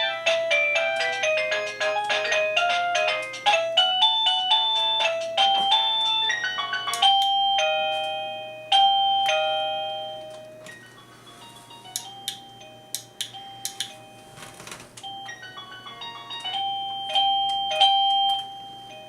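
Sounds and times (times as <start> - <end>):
electronic doorbell chime tune: 0.0 - 14.4, 15.0 - 19.0.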